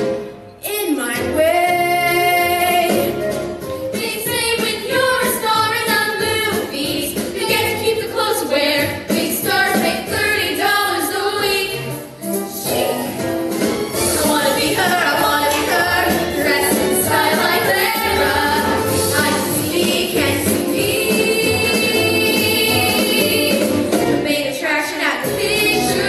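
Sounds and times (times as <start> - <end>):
musical theatre song: 0.0 - 26.0.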